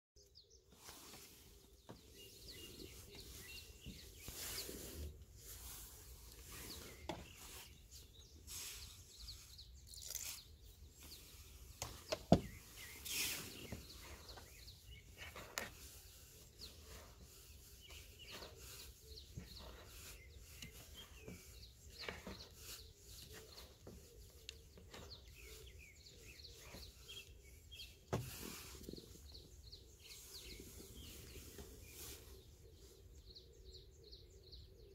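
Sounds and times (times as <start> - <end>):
bird chirps: 0.2 - 34.9.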